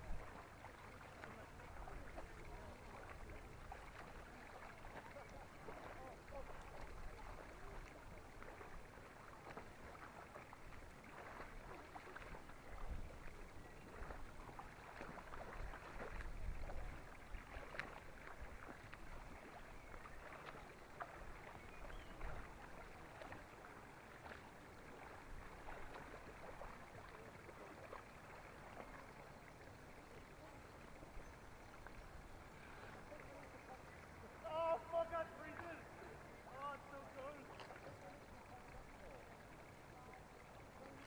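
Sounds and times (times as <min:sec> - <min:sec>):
small waves lapping: 0:00.0 - 0:41.0.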